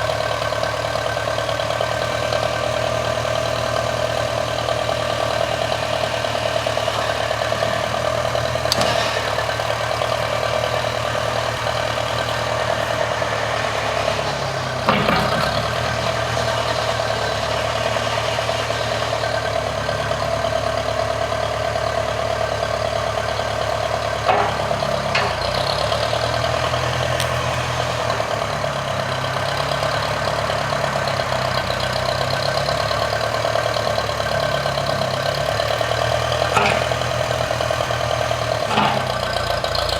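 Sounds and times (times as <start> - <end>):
engine running with low hum: 0.0 - 39.9.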